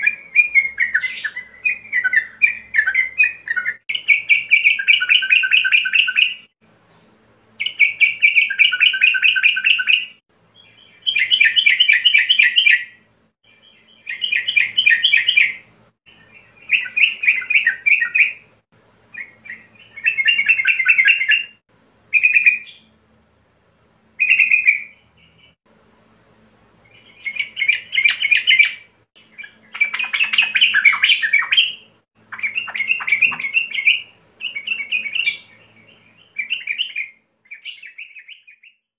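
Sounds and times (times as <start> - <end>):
bird singing bubbling phrases: 0.0 - 6.4, 7.6 - 18.6, 19.2 - 23.0, 26.9 - 38.8.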